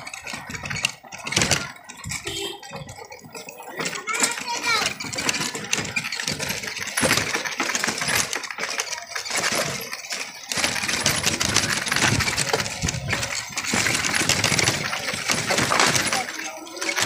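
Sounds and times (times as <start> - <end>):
cycle rickshaw rattling: 0.0 - 17.0.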